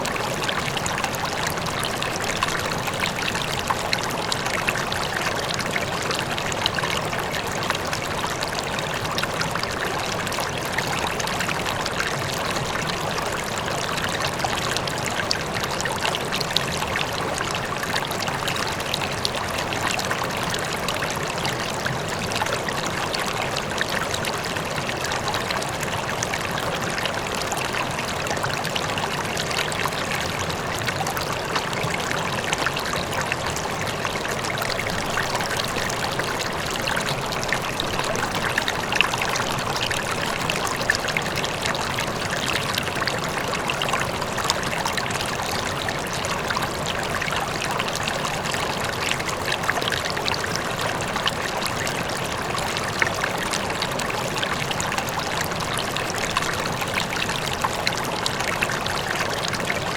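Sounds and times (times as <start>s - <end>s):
river water flowing over stones: 0.0s - 59.9s.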